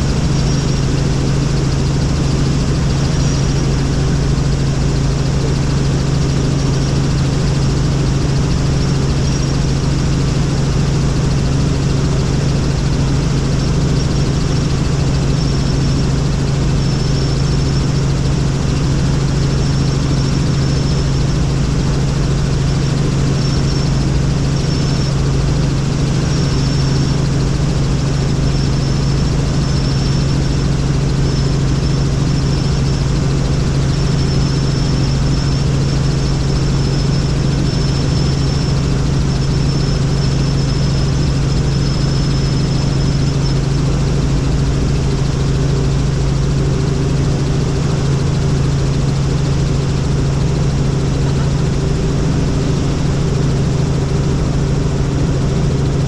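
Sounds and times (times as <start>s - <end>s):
helicopter engine and rotors drone: 0.0s - 56.0s
thin high whine: 0.0s - 56.0s.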